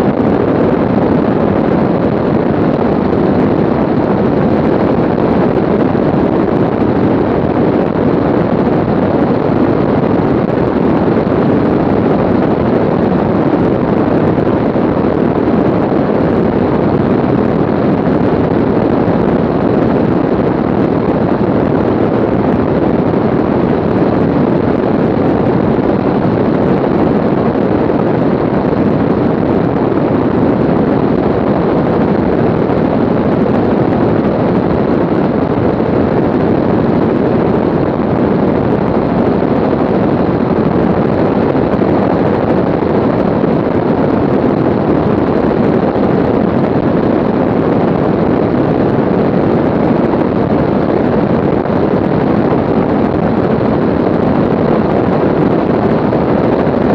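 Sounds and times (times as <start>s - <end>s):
aircraft engines and rushing air: 0.0s - 56.9s
wind on microphone: 0.0s - 56.9s.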